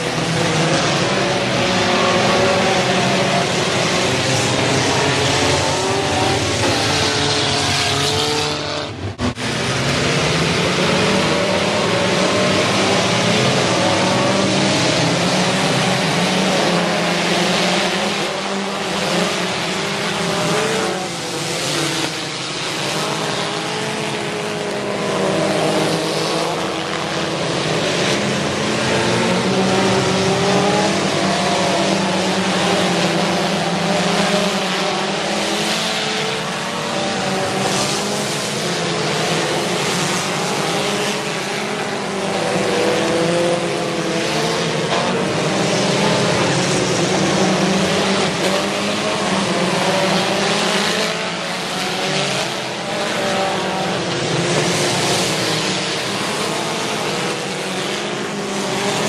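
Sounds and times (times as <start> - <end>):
stock car engines revving: 0.0 - 59.0.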